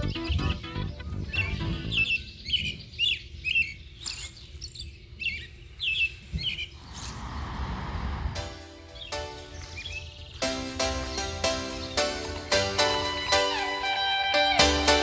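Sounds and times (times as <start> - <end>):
bird chirping: 0.0 - 7.1, 8.8 - 15.0.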